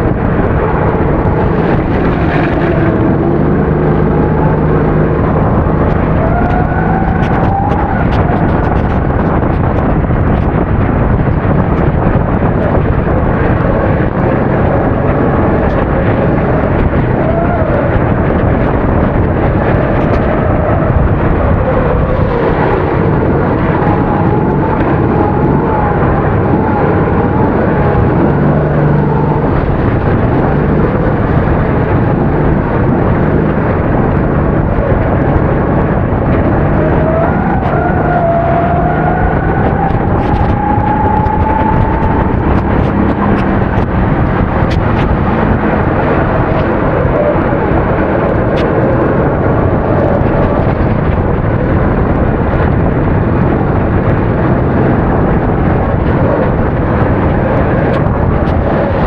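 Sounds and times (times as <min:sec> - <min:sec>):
kart engine revving: 0:00.0 - 0:59.0
loud rushing noise: 0:00.0 - 0:59.0.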